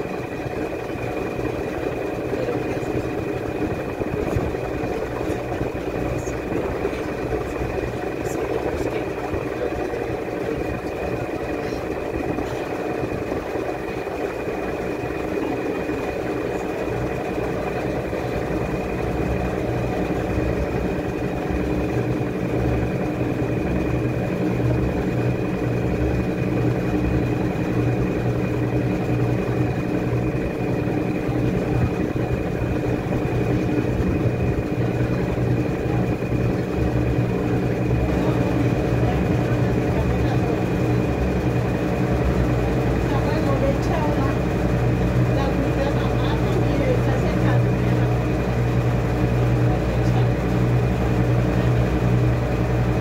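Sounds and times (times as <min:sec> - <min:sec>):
washing machine running: 0:00.0 - 0:53.0.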